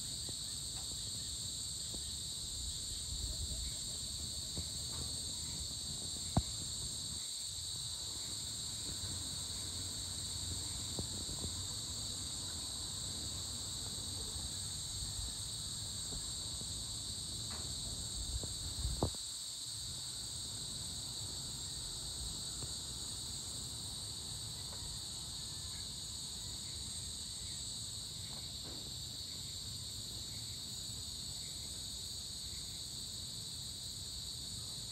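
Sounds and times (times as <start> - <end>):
shrill insect chorus: 0.0 - 34.9.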